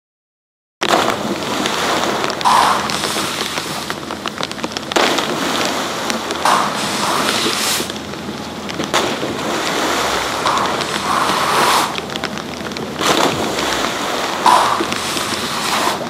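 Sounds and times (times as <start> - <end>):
churning water: 0.8 - 16.0.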